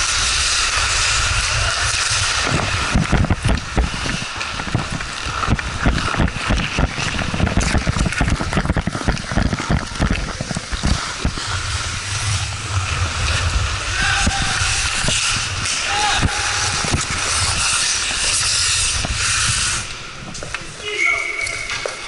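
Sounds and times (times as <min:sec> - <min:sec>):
wind on microphone: 0:00.0 - 0:20.4
skates scraping on ice: 0:00.0 - 0:22.0.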